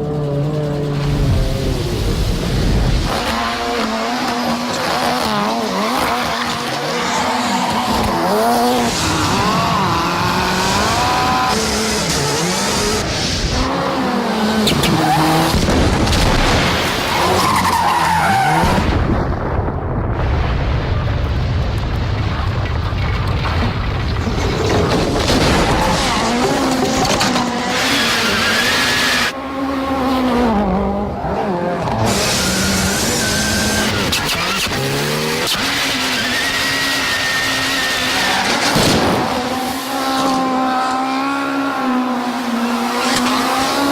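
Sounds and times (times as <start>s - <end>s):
rally car engine revving: 0.0s - 19.1s, 23.4s - 43.9s.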